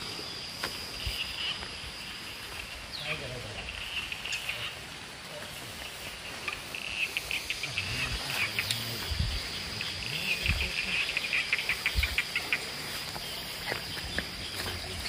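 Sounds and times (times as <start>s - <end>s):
insects chirping rapidly: 0.0s - 15.0s
insects whining: 0.0s - 15.0s.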